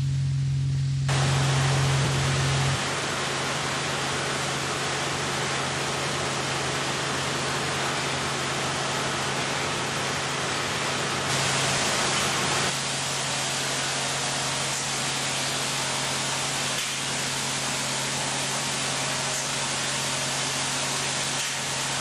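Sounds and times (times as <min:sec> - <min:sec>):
low machinery hum: 0:00.0 - 0:22.0
high-pressure water jet hissing: 0:01.1 - 0:22.0.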